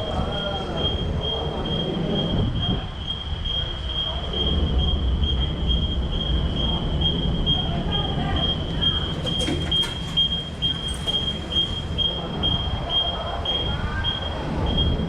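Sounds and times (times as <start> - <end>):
ferry engine rumble: 0.0 - 15.0.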